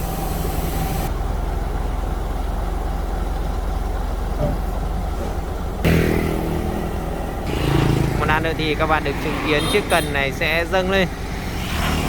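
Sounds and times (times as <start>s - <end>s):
diesel engine idling: 0.0s - 11.6s.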